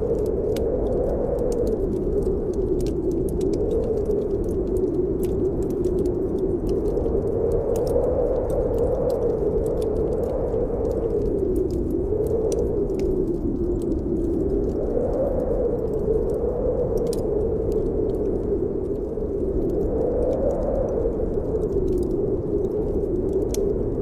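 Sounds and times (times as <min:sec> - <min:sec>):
wind blowing: 0:00.0 - 0:24.0
wood fire crackling: 0:00.0 - 0:24.0.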